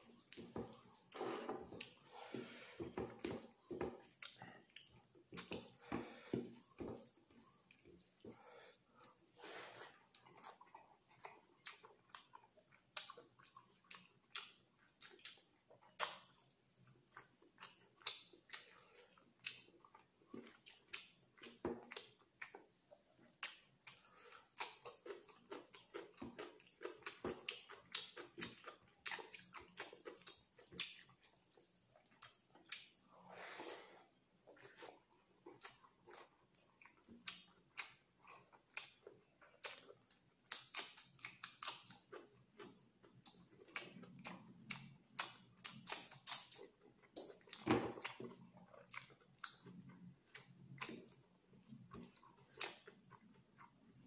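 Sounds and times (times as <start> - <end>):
chewing and lip-smacking: 0.0 - 33.2, 34.4 - 54.0.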